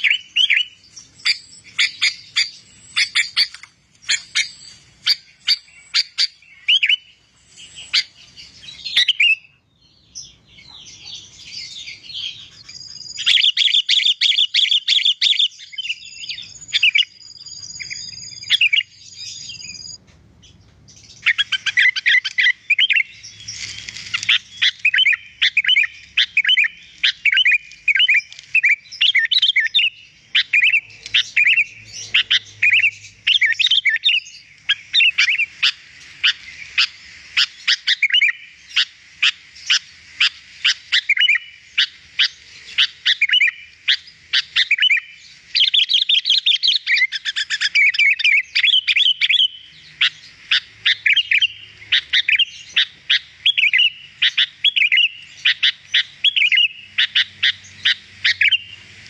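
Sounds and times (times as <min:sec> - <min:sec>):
bird singing chirps and whistles: 0:00.0 - 0:58.8.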